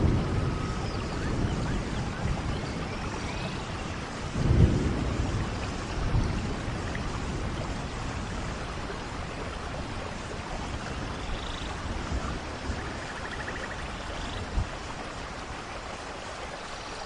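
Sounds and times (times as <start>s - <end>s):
thunder rumbling: 0.0s - 15.2s
steady rain falling: 0.0s - 17.0s.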